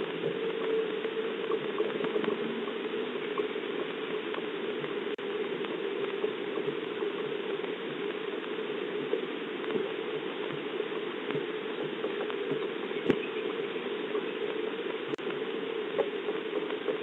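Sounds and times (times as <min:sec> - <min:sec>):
faint ticks of raindrops: 0:00.0 - 0:17.0
steady rain hiss: 0:00.0 - 0:17.0.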